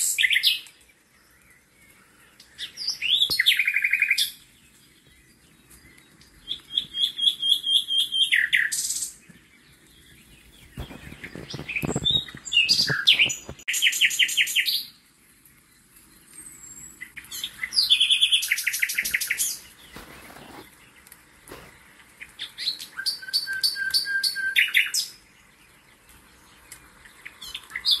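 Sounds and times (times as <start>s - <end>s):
songbird singing trilled phrases: 0.0s - 15.0s, 15.6s - 28.0s.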